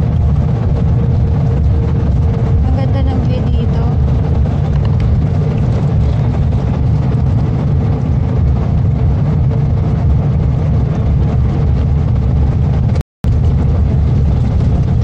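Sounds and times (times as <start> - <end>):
vehicle cabin road rumble: 0.0 - 15.0.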